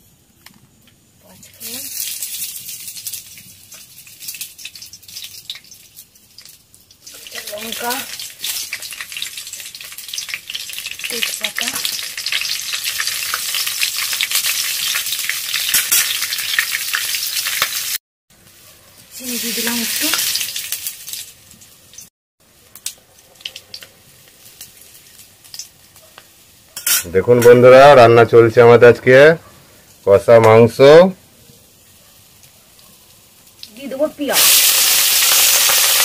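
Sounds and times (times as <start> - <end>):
oil sizzling and spitting: 1.2 - 26.8, 31.5 - 36.0.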